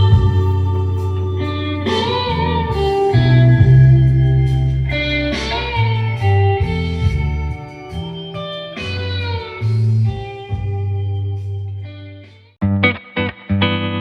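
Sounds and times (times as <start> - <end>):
bass and accompaniment: 0.0 - 14.0
slow rock ballad guitar lead: 0.0 - 14.0.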